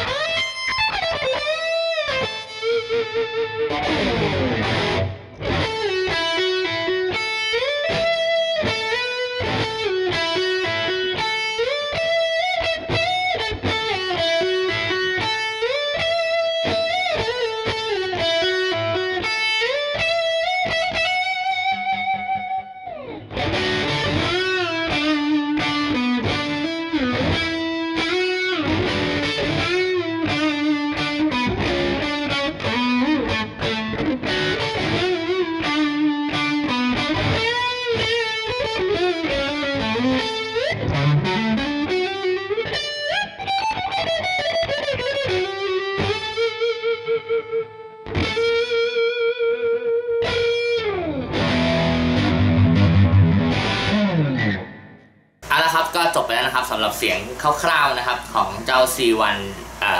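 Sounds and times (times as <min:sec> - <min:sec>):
electric guitar lead melody: 0:00.0 - 0:59.9.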